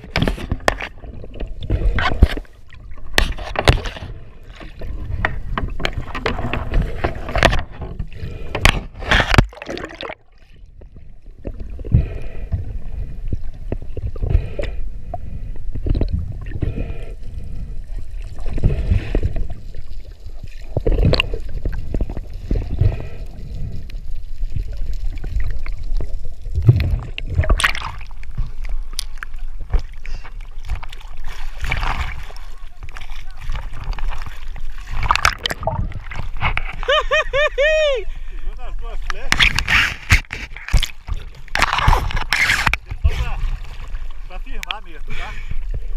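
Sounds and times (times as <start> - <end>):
water sloshing and gurgling: 0.0 - 45.9.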